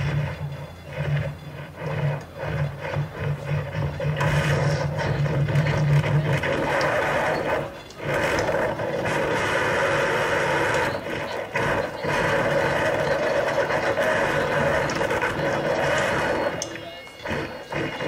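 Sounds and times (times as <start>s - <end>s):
machine-like noise music: 0.0s - 18.0s.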